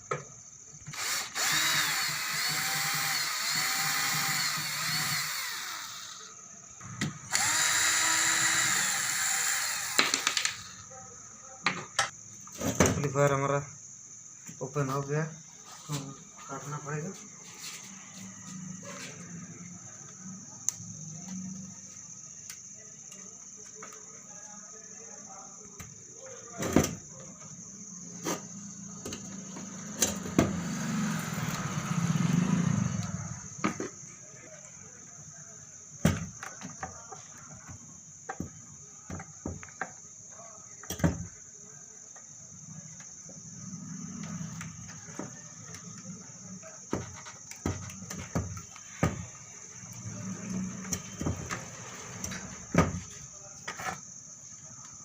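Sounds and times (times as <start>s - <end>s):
high insect-like chirring: 0.0s - 55.0s.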